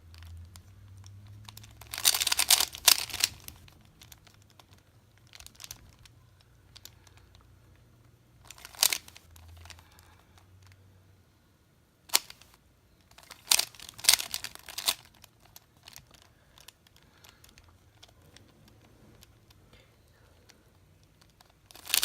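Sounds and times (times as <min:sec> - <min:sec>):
puzzle cube clacking: 0:00.0 - 0:10.7, 0:12.1 - 0:19.6, 0:20.2 - 0:22.0.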